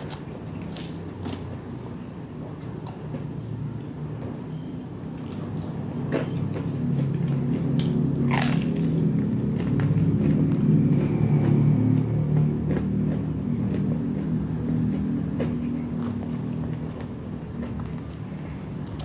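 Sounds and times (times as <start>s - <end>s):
crunchy chewing of fried snacks: 0.0s - 19.0s.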